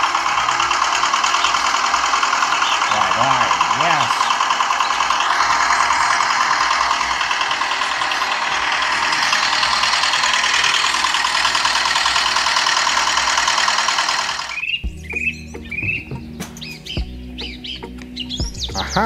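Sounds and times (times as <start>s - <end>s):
model diesel engine running: 0.0s - 19.0s.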